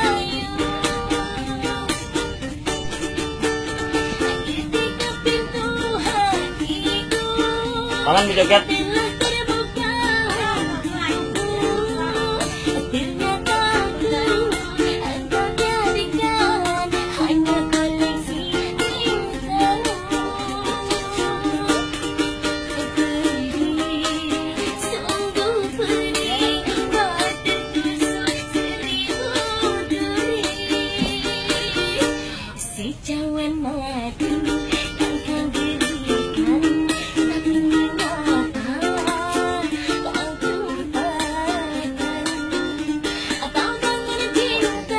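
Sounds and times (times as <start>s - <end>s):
small ukulele strumming chords: 0.0s - 44.9s
woman singing: 0.0s - 44.9s.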